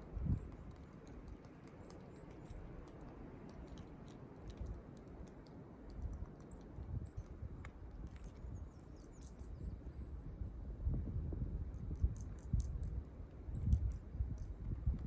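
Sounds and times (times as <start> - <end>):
light clicks and taps: 0.3 - 9.5, 11.7 - 15.0.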